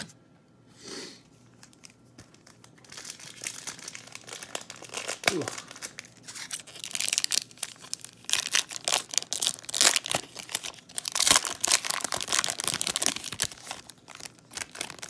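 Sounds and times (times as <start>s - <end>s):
card pack wrapper crinkling and tearing: 1.6s - 15.0s.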